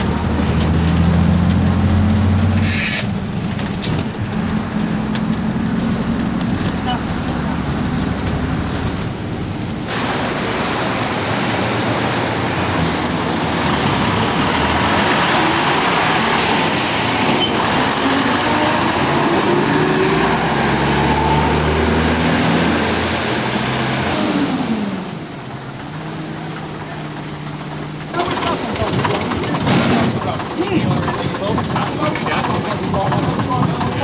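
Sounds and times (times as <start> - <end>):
bus diesel engine accelerating: 0.0 - 34.0
street traffic: 0.0 - 34.0.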